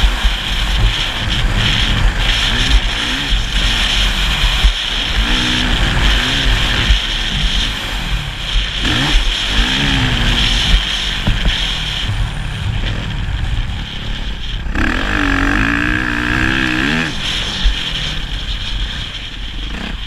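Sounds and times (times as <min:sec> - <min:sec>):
heavy low rumble: 0:00.0 - 0:20.0
motocross motorcycle engine revving: 0:00.0 - 0:20.0.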